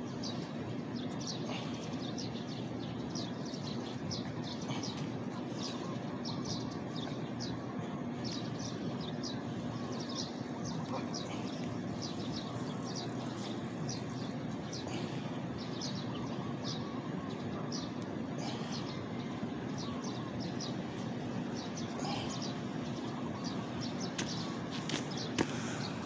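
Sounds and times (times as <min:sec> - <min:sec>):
birds chirping: 0:00.0 - 0:26.0
low outdoor background hum: 0:00.0 - 0:26.0.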